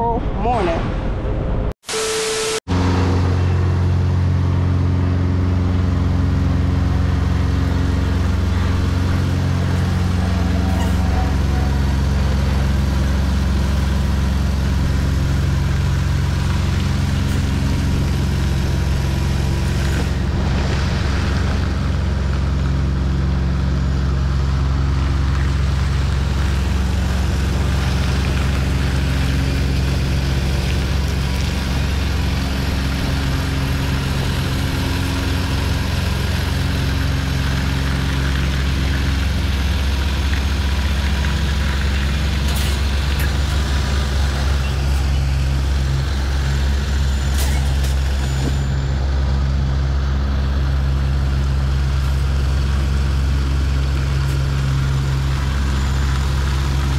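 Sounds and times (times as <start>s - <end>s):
diesel truck engine idling: 2.7s - 56.9s.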